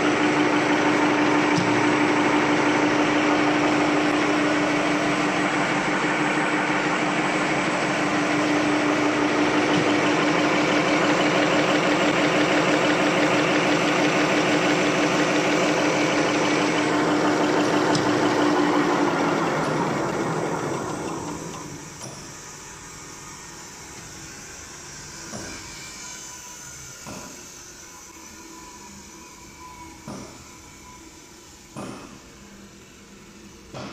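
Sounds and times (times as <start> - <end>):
folding machine running: 0.0 - 28.1.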